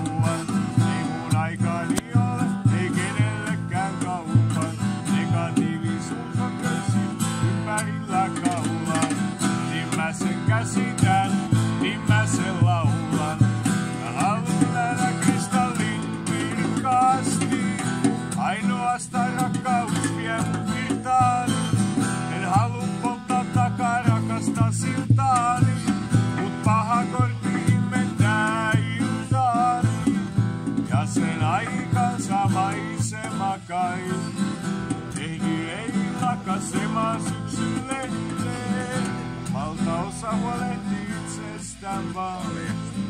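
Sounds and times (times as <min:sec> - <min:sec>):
slide guitar gliding notes: 0:00.0 - 0:43.0
strummed acoustic guitar: 0:00.0 - 0:43.0.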